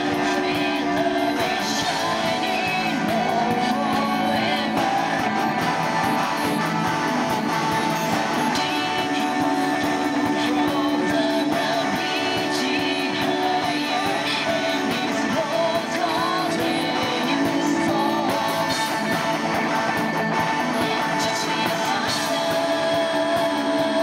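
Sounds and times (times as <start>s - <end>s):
live rock band playing: 0.0s - 24.0s
strummed guitar: 0.0s - 24.0s.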